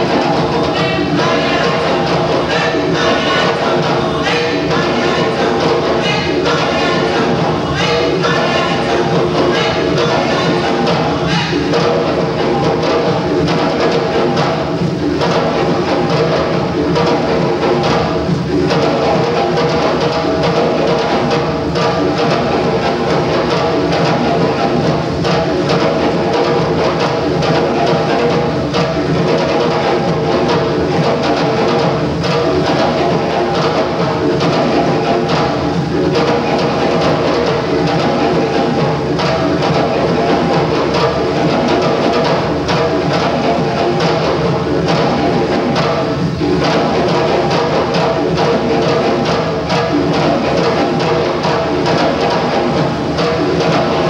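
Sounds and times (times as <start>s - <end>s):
hand drums playing rhythm: 0.0s - 54.0s.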